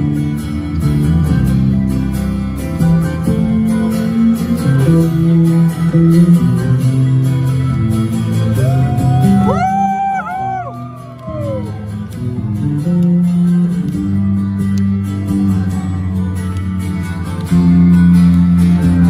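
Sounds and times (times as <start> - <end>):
bending lead guitar notes: 0.0 - 19.0
live rock band playing: 0.0 - 19.0.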